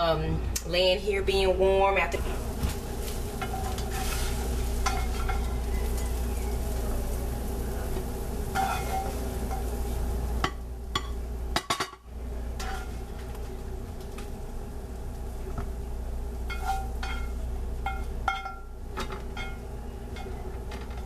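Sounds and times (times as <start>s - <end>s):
food sizzling in a pan: 1.8s - 21.0s.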